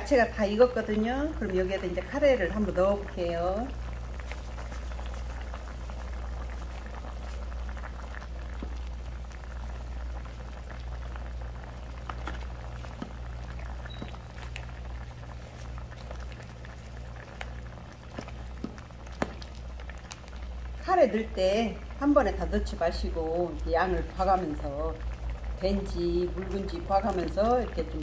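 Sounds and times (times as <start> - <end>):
broth boiling and popping: 0.0 - 28.0
steady low hum: 0.0 - 28.0.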